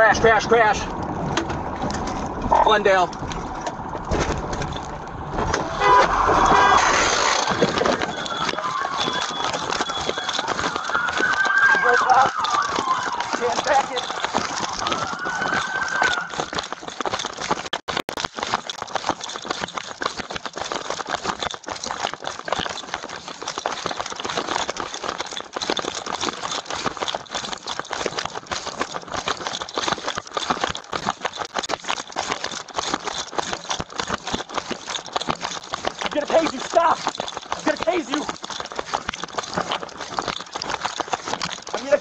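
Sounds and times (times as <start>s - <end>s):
gear and clothing rattling: 0.0s - 42.0s
running footfalls: 0.0s - 42.0s.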